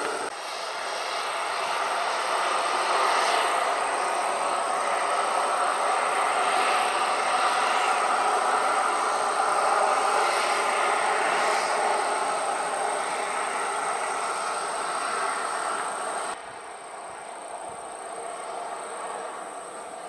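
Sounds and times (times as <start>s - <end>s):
jet engines passing: 0.0s - 20.0s.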